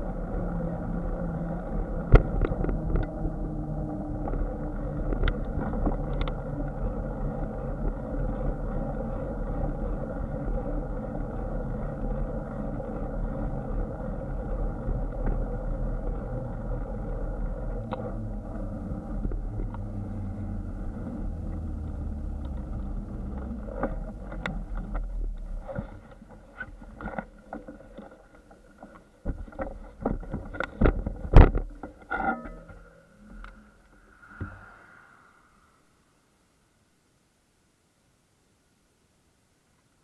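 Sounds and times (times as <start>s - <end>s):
bike rattling over pavement: 0.0s - 32.8s
bicycle tyres rumbling: 0.0s - 36.4s
wind: 0.0s - 40.0s.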